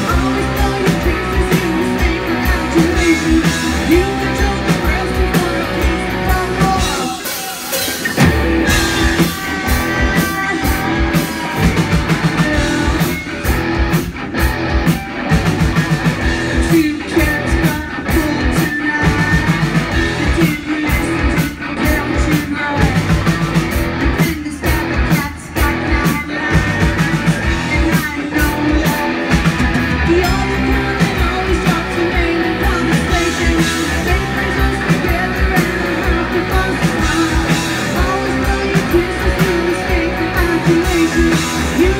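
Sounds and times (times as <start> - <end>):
woman singing lead: 0.0 - 13.9, 16.2 - 23.4, 24.0 - 41.9
drums: 0.0 - 41.9
electric guitar: 0.0 - 41.9.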